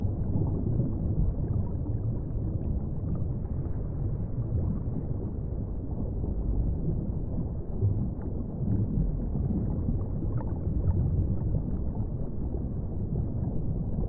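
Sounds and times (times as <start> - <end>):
faint bubbling: 0.0 - 14.0
muffled underwater rumble: 0.0 - 14.0.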